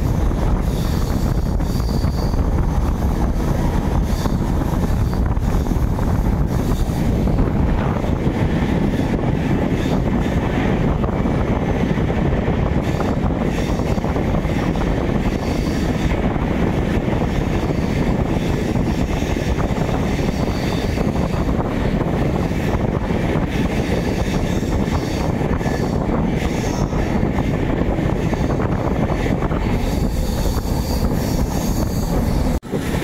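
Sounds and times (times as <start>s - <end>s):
train wheels rumbling on track: 0.0s - 33.0s
wind buffeting microphone: 0.0s - 33.0s.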